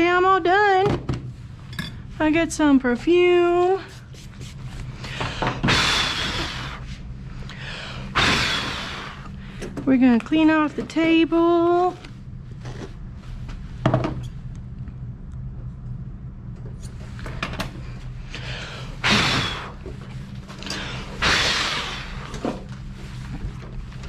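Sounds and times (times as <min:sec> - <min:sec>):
blower motor hum: 0:00.0 - 0:24.0.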